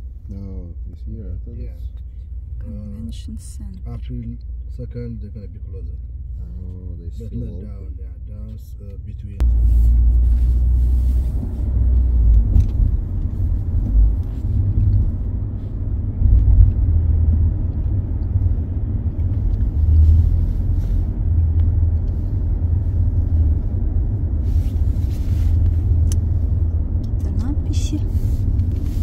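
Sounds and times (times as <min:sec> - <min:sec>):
car rumble inside cabin: 0:00.0 - 0:29.0.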